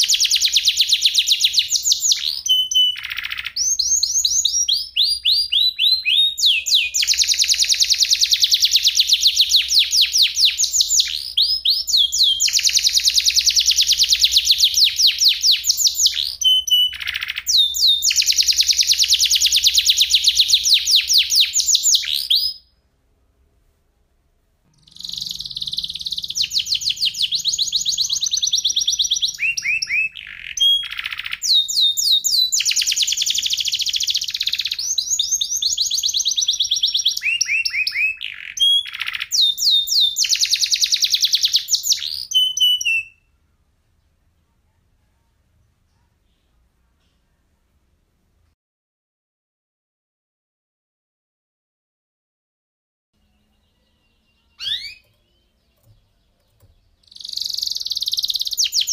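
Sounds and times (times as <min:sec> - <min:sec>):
canary singing trills: 0:00.0 - 0:22.7, 0:24.7 - 0:43.4, 0:53.2 - 0:58.9.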